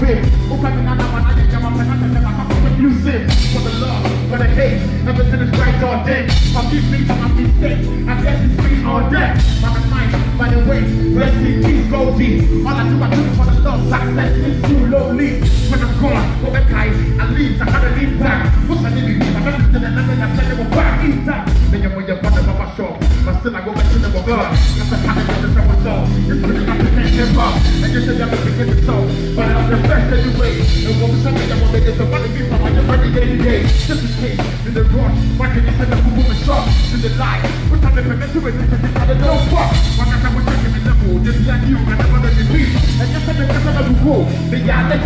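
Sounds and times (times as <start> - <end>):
drum kit: 0.0 - 45.0
heavy steady bass: 0.0 - 45.0
live band playing loud music: 0.0 - 45.0.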